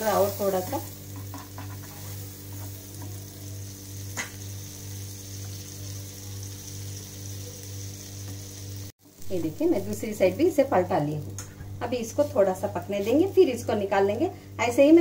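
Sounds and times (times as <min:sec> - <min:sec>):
butter sizzling in a pan: 0:00.0 - 0:14.2.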